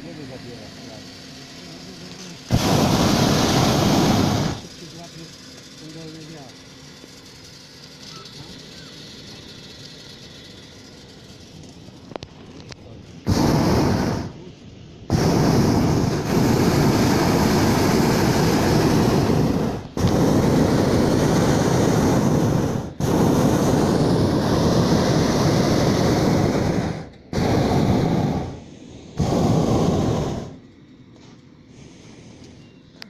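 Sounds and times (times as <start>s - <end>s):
propane burner roaring: 0.0s - 33.0s.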